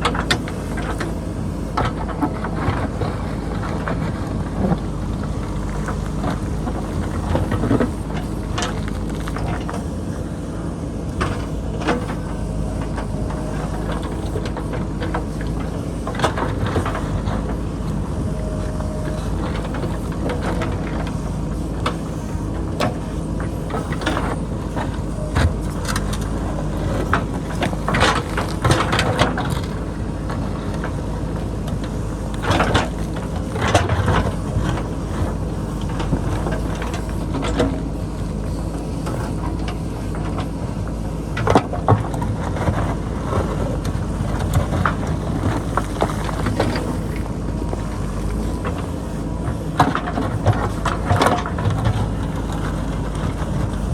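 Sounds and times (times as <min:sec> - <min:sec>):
diesel engine under load: 0:00.0 - 0:53.9.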